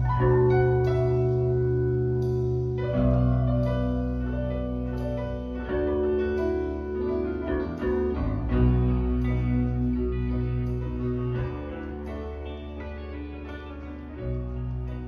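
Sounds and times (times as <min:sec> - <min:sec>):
piano music with bass line: 0:00.0 - 0:15.0.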